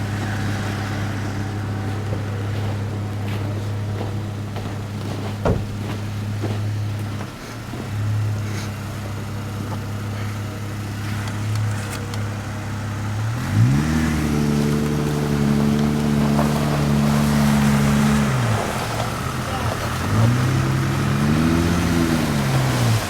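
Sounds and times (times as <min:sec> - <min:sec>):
vehicle engine idling and revving: 0:00.0 - 0:23.0.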